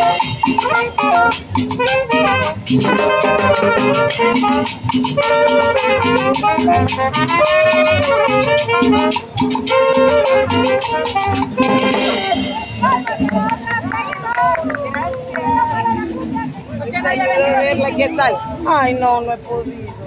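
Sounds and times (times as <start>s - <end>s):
trumpets playing melody: 0.0s - 16.2s
drums keeping quick beat: 0.0s - 20.0s.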